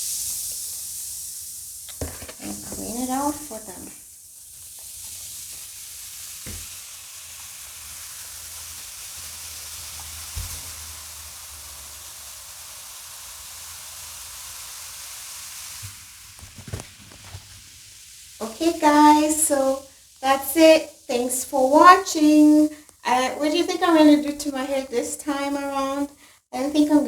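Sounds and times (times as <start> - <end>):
fizzing hiss: 0.0 - 27.0.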